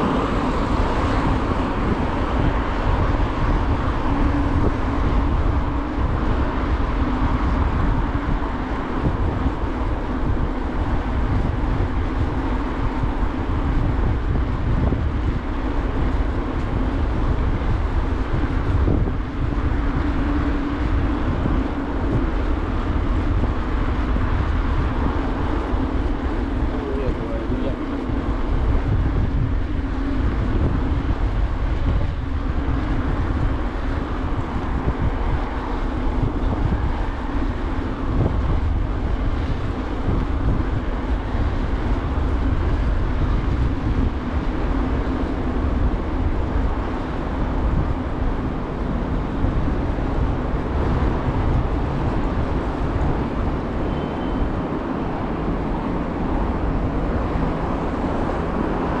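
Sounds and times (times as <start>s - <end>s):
bicycle tyres rolling on road: 0.0s - 59.0s
traffic: 0.0s - 59.0s
wind on microphone: 0.0s - 59.0s.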